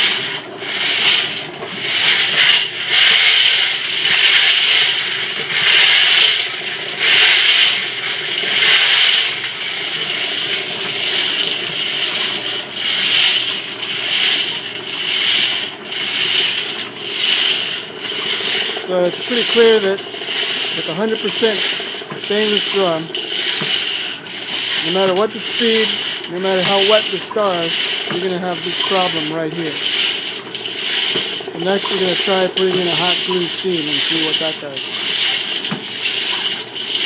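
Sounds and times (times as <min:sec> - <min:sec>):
wet pellets sliding in rotating drum: 0:00.0 - 0:37.0.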